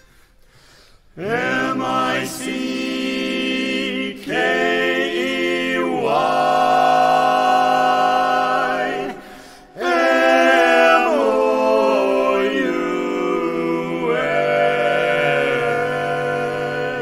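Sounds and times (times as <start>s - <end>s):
barbershop quartet singing: 1.2s - 17.0s.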